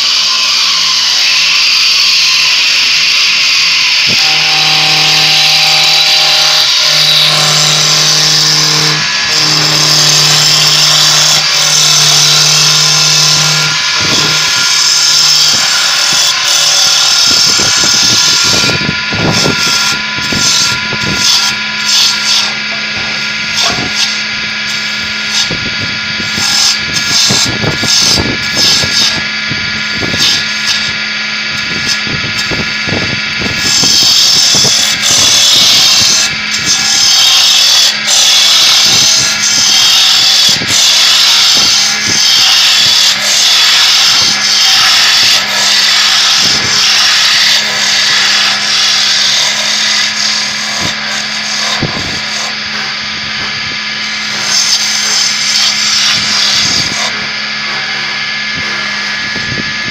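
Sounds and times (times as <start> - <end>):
wood lathe running: 0.0 - 59.9
tool scraping spinning wood: 4.1 - 59.9.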